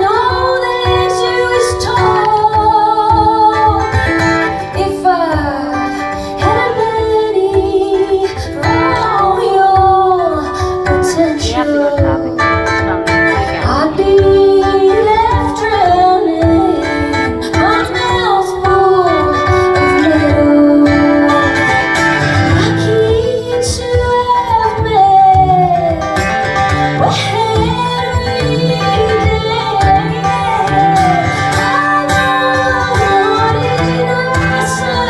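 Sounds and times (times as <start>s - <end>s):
guitar: 0.0s - 35.0s
woman singing: 0.0s - 35.0s.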